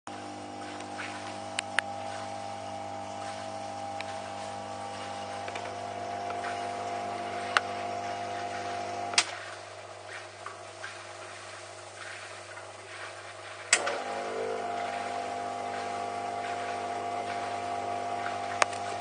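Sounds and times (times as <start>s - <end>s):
pump humming: 0.1s - 19.0s.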